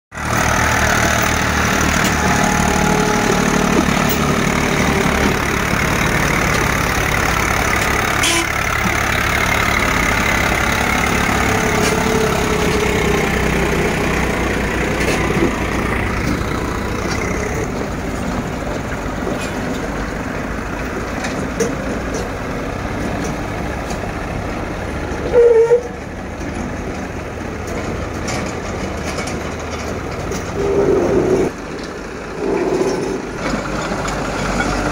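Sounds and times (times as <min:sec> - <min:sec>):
diesel tractor engine under load: 0:00.1 - 0:34.9.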